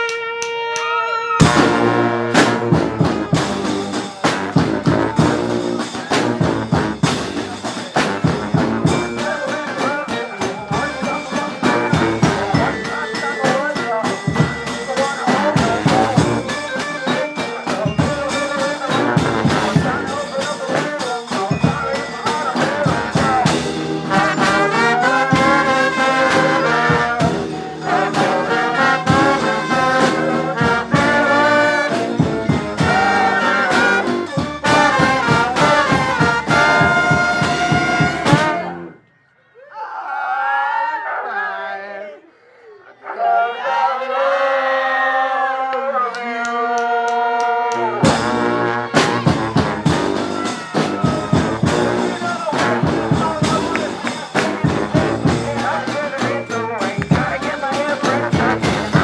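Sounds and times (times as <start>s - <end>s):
brass band playing: 0.0s - 39.0s, 47.6s - 59.0s
drum hits: 1.4s - 38.8s, 47.8s - 59.0s.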